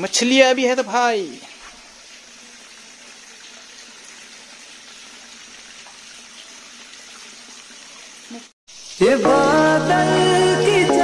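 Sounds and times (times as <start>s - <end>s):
water trickling into a pond: 0.0s - 9.2s.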